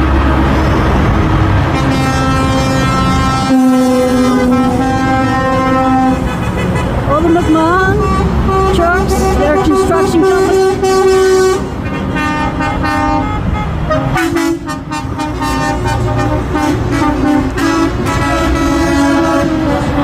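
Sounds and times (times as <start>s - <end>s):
truck engines rumbling: 0.0s - 20.0s
truck air horns blowing: 1.6s - 20.0s.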